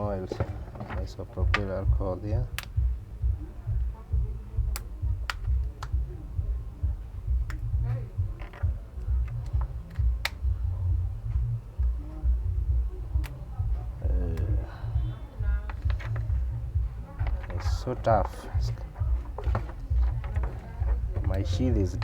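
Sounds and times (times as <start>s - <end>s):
low rumble: 1.4s - 22.0s.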